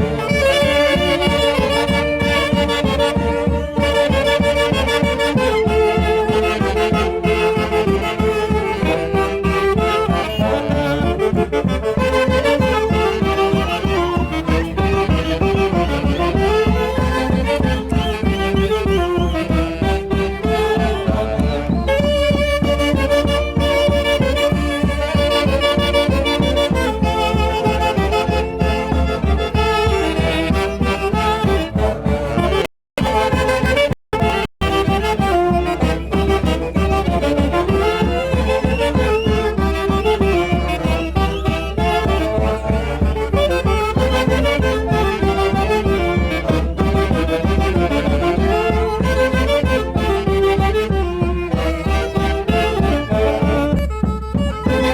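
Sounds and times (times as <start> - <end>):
driving drum beat: 0.0 - 54.9
wind instruments melody: 0.0 - 54.9.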